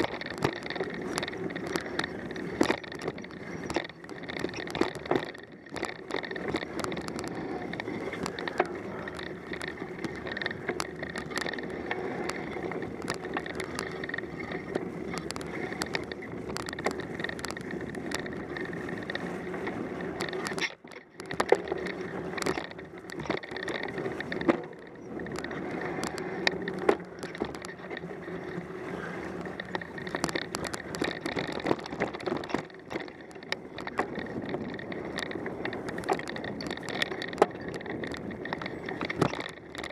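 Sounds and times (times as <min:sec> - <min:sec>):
bike rattles and knocks: 0:00.0 - 0:39.9
bike tyre and drivetrain noise: 0:00.0 - 0:39.9.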